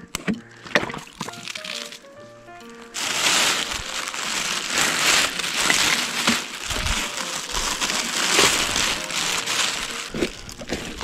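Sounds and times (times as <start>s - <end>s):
plastic bottle crinkling: 0.1s - 2.1s, 2.7s - 11.0s.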